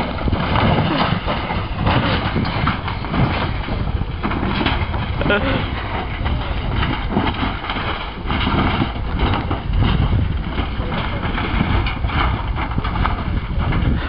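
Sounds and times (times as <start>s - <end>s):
car body crashing over rocks: 0.0s - 12.6s
wind buffeting microphone: 0.0s - 14.0s.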